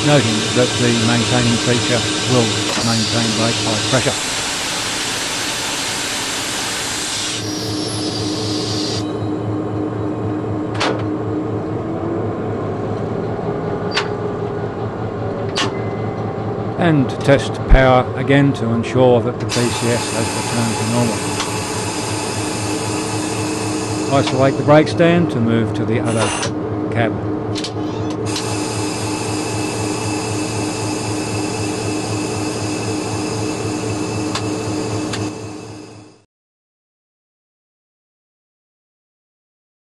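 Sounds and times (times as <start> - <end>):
constant whine: 0.0 - 36.2
diesel locomotive idling: 0.0 - 36.2.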